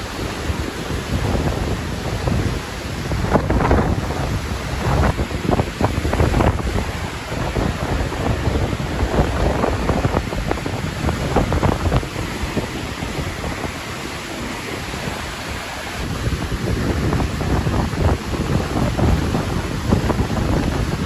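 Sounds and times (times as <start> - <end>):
surf washing: 0.0 - 21.0
wind buffeting microphone: 0.0 - 21.0.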